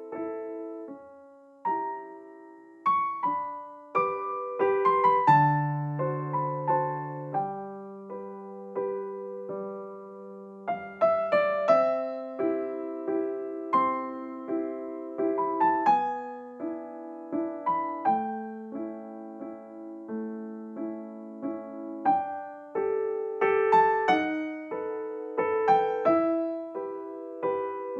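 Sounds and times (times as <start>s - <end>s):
gentle piano music: 0.0s - 27.9s.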